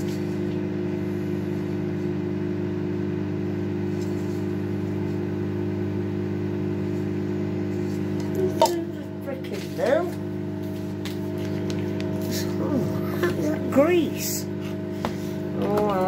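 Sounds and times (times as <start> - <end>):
appliance motor humming: 0.0 - 16.0.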